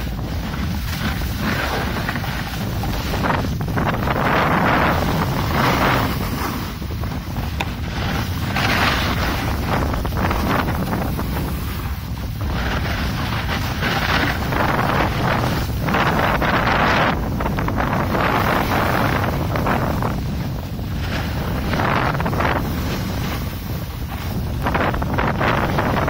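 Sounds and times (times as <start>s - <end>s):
snowboard edges scraping snow: 0.0s - 26.0s
wind buffeting microphone: 0.0s - 26.0s.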